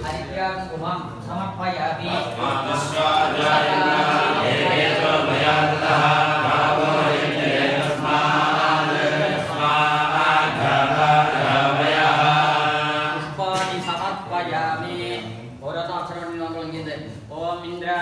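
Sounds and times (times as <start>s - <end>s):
men chanting mantras: 0.0s - 18.0s.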